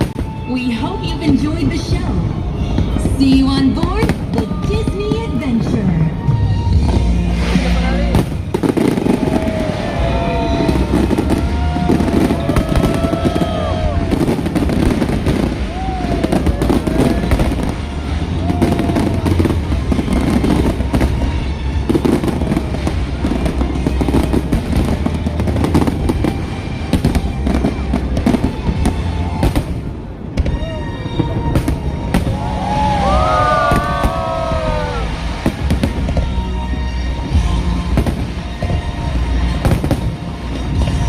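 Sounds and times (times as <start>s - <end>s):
fireworks booming and crackling: 0.0s - 41.0s
music playing: 0.0s - 41.0s.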